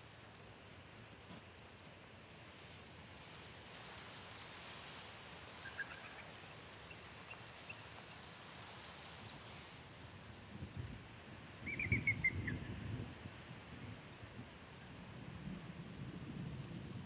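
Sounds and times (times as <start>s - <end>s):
faint outdoor air hiss: 0.0s - 17.0s.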